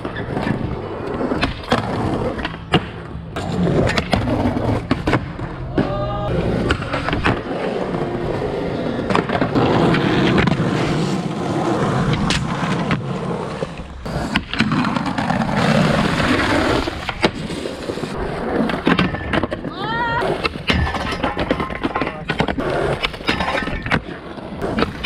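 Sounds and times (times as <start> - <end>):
skateboard clacks: 0.0 - 25.0
skateboard trucks grinding: 0.0 - 25.0
skateboard wheels rolling on concrete: 0.0 - 25.0.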